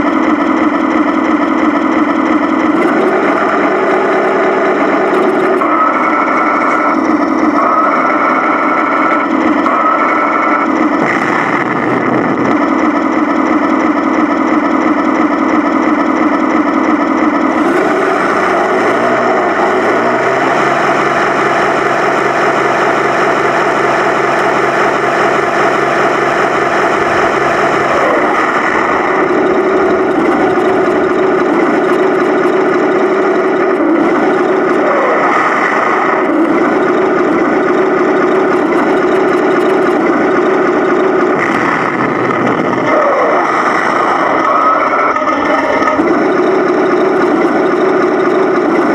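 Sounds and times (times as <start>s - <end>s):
electronic engine sound from speaker: 0.0s - 48.9s
gear motors whining: 0.0s - 48.9s.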